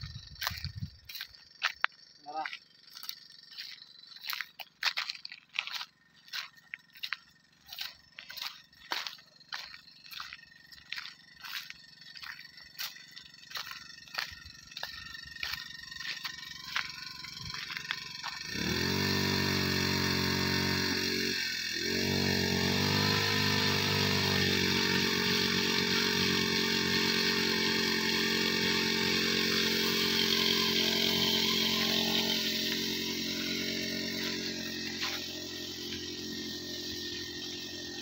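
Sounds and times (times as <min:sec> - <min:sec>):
sprayer pump motor running: 0:00.0 - 0:38.0.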